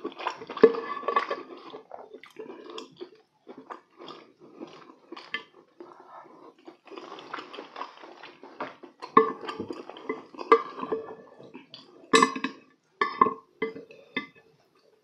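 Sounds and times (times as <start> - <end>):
chewing: 0.0 - 12.7.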